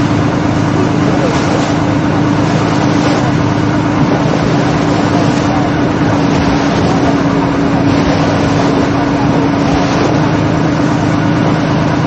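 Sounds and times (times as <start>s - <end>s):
motorboat engine drone: 0.0s - 12.0s
water rushing along hull: 0.0s - 12.0s
wind buffeting microphone: 0.0s - 12.0s.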